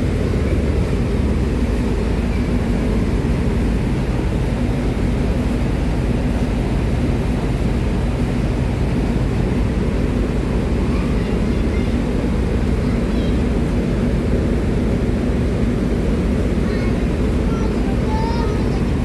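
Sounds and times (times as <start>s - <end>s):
low mechanical rumble with hum: 0.0s - 19.0s.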